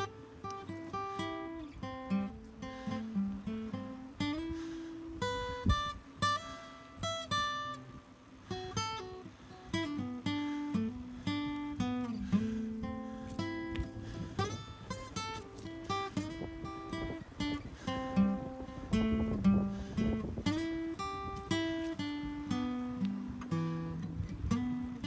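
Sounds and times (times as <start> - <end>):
acoustic guitar: 0.0 - 25.0.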